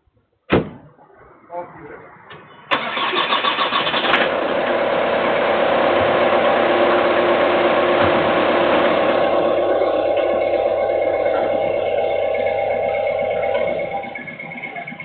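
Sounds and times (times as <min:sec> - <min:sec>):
car engine starting and idling: 0:01.4 - 0:15.0.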